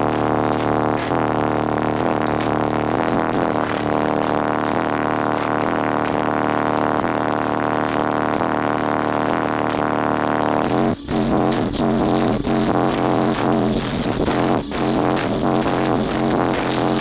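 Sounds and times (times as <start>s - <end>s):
loud music through car subwoofers: 0.0s - 17.0s.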